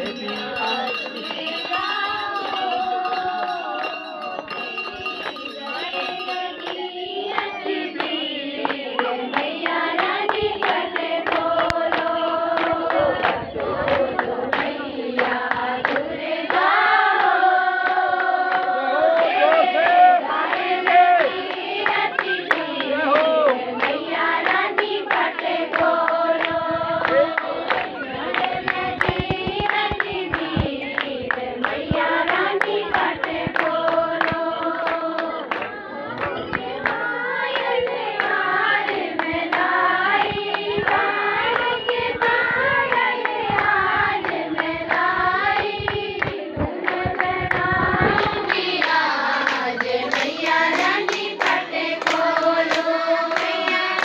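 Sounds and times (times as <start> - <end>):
hands clapping in time: 0.0 - 54.0
women singing in unison: 0.0 - 54.0.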